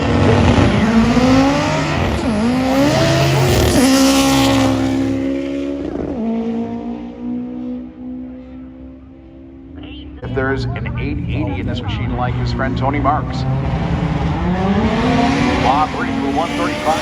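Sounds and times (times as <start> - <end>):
drag racing car accelerating: 0.0 - 17.0.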